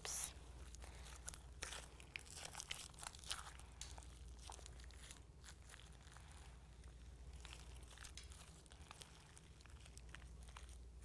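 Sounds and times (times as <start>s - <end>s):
low steady hum: 0.0s - 11.0s
slime crackling and squelching: 0.0s - 11.0s.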